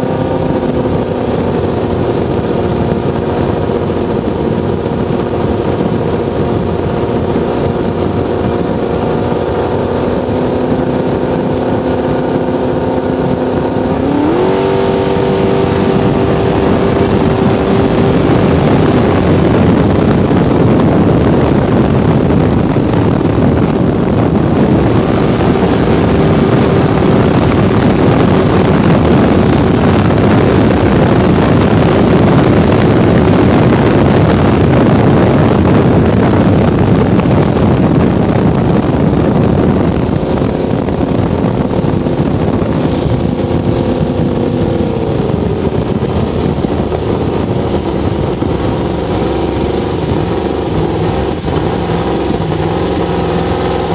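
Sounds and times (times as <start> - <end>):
boat engine running: 0.0 - 53.9
rushing wind and water: 0.0 - 53.9.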